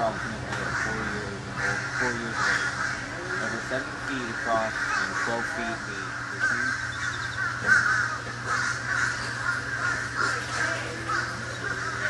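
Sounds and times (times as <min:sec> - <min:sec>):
birds cawing: 0:00.0 - 0:12.0
low steady hum: 0:00.0 - 0:12.0.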